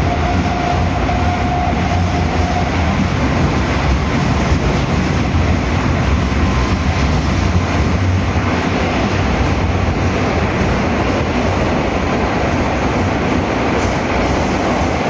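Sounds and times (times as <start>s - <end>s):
train rumbling through tunnel: 0.0s - 15.0s.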